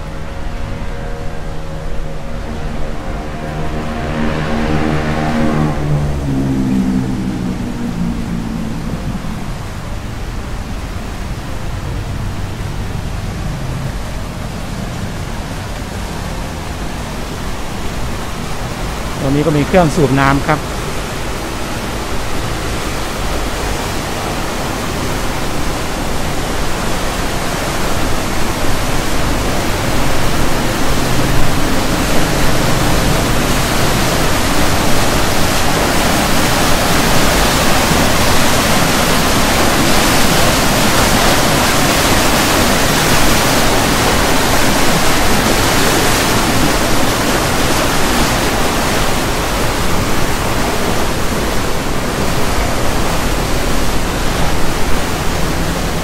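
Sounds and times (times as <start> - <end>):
water gushing: 2.8 - 56.0.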